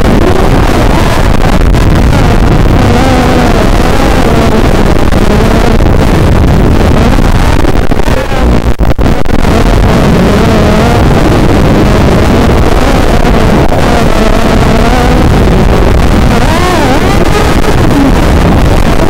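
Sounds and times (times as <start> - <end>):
wind rush: 0.0 - 19.0
quadcopter motors buzzing: 0.2 - 7.2, 9.5 - 18.9.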